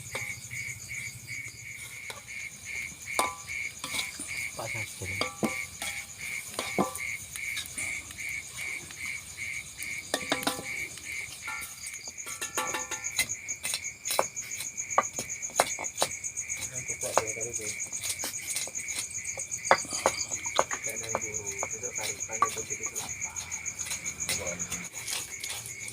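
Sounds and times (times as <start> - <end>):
insect pulsing call: 0.0 - 25.9.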